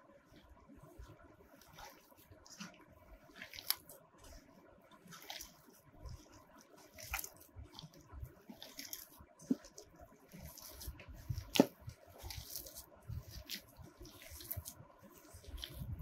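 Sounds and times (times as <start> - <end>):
wet squelching of kneading: 0.0 - 16.0.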